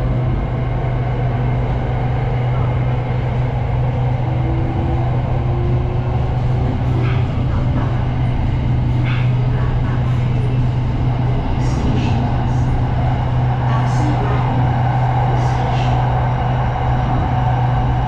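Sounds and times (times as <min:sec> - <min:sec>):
electric train running: 0:00.0 - 0:18.0.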